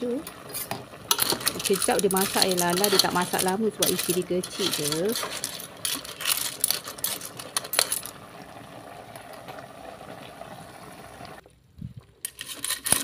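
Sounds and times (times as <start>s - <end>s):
broth bubbling in pot: 0.0s - 12.6s.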